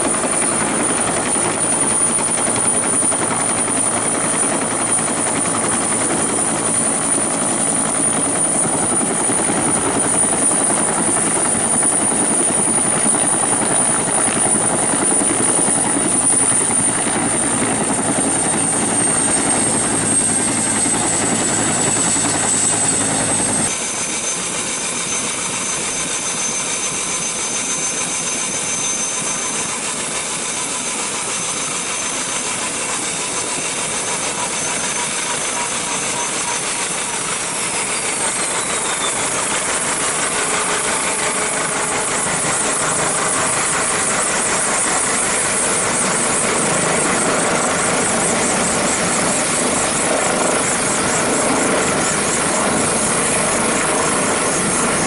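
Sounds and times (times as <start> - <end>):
helicopter rotor and turbine noise: 0.0 - 55.0.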